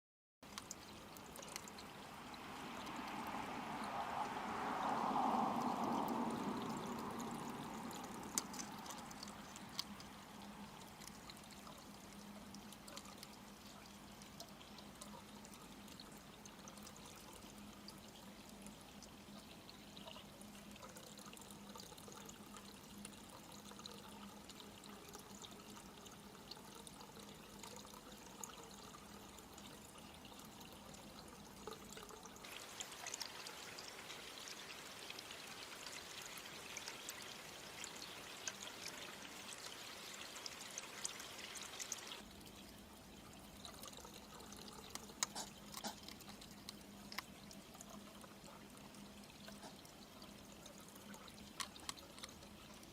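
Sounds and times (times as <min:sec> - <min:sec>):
faint steady hiss: 0:00.4 - 0:52.9.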